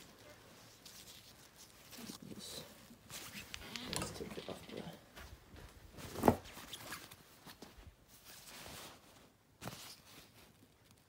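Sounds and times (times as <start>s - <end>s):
nylon fabric rustling: 0.0s - 11.0s.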